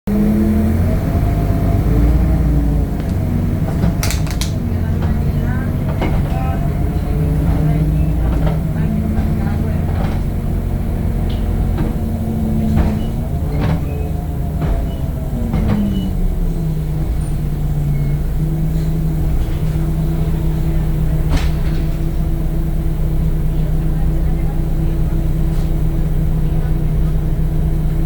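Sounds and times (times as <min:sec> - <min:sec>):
bus diesel engine rumble: 0:00.0 - 0:28.0.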